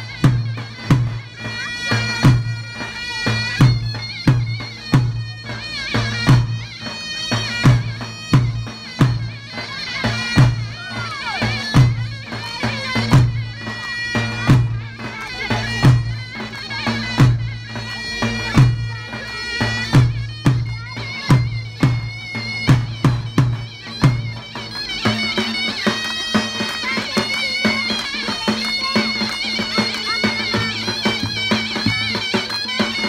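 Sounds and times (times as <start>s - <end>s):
heavy drum beats: 0.0s - 33.0s
zurna melody: 0.0s - 33.0s.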